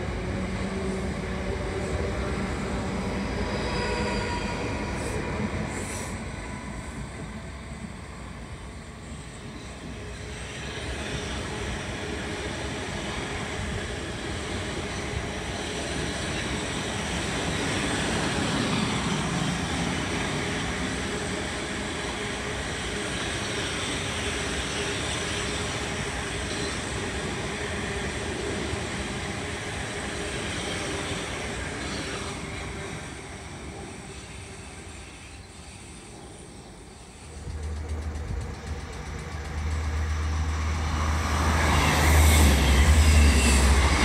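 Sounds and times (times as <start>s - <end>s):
electric train passing: 0.0s - 44.0s
jet airliner overhead: 0.0s - 44.0s.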